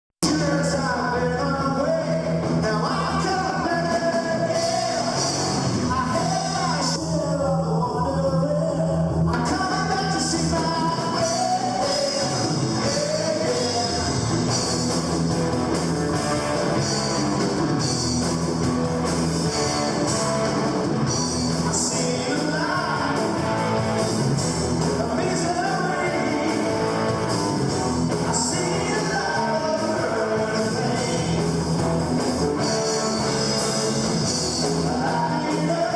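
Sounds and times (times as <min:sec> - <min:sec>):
live rock band playing: 0:00.2 - 0:35.9.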